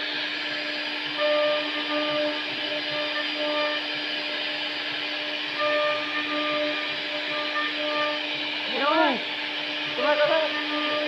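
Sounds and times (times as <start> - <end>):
hiss: 0.0 - 11.0
router spindle whine: 0.0 - 11.0.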